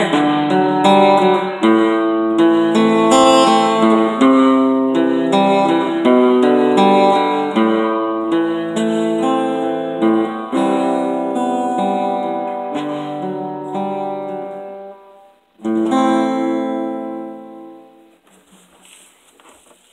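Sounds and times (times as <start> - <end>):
acoustic guitar chords strummed: 0.0 - 18.2.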